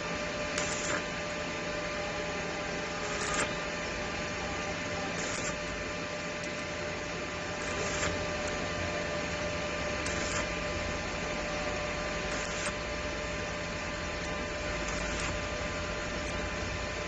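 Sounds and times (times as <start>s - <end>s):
welding arc hissing and crackling: 0.0s - 17.0s.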